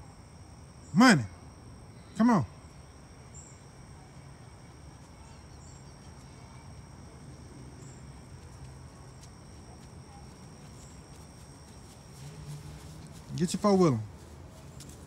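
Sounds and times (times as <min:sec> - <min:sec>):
faint high-pitched whine: 0:00.0 - 0:15.0
steady low hum: 0:00.0 - 0:15.0.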